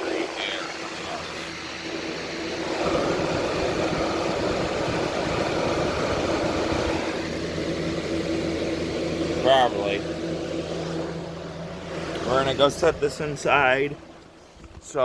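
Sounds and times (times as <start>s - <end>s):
air conditioner compressor hum: 0.0s - 15.0s
fan blowing air: 0.0s - 15.0s.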